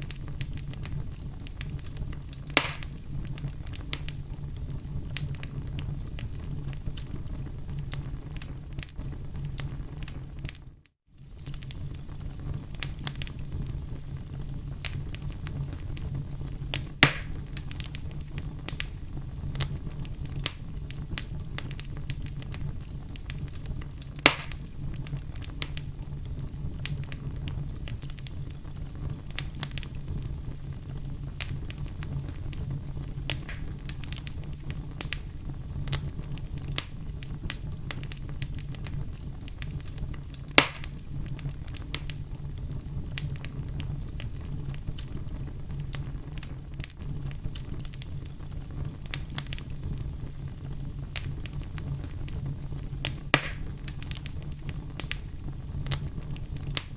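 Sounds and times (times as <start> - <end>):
sharp fire pops: 0.0 - 10.6, 11.2 - 56.9
fireplace fire crackling: 0.0 - 56.9.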